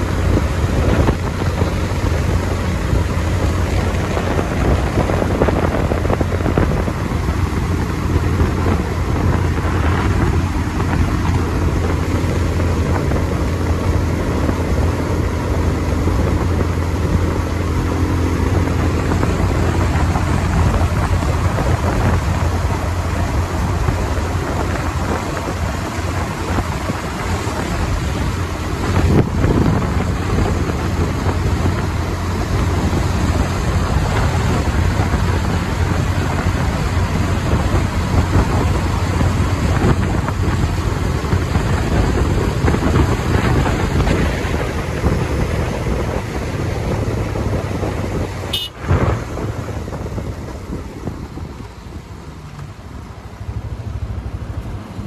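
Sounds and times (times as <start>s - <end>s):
motorcycle engine cruising: 0.0s - 55.0s
wind rushing on microphone: 0.0s - 55.0s.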